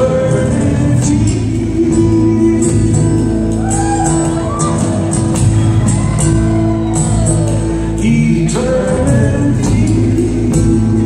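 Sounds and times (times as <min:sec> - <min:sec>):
guitar: 0:00.0 - 0:11.0
upright double bass: 0:00.0 - 0:11.0.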